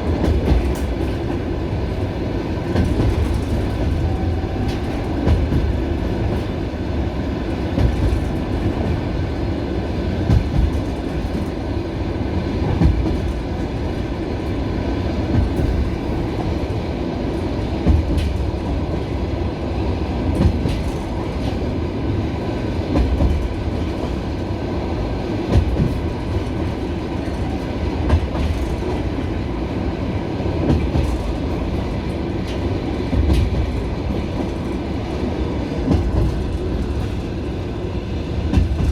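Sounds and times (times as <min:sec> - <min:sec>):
railway carriage rumbling: 0:00.0 - 0:38.9.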